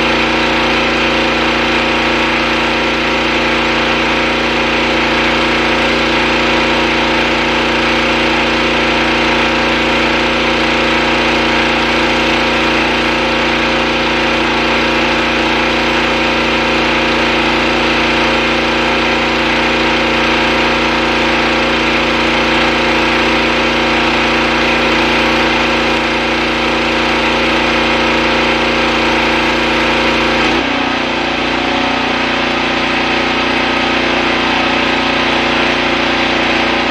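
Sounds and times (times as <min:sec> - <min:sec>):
pressure washer engine running: 0:00.0 - 0:36.9.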